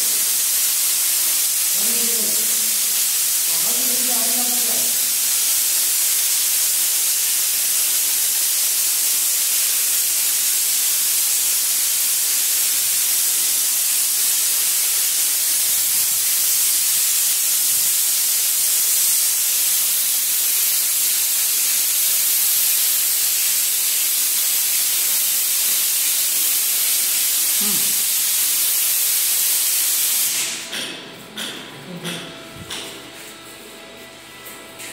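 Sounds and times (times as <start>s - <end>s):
spray gun hissing: 0.0s - 30.8s.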